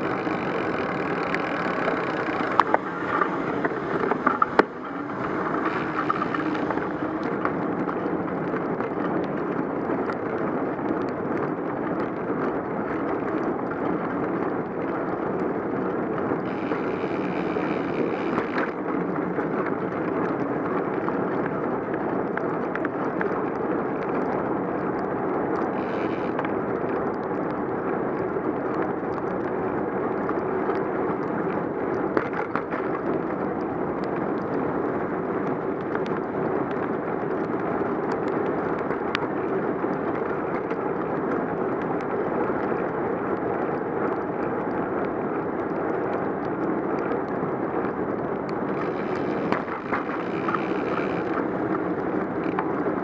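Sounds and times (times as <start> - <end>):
faint clicks: 0.0 - 15.5, 16.4 - 27.6, 35.4 - 53.0
bicycle tyre noise on wet road: 0.0 - 53.0
wind on microphone: 0.0 - 53.0.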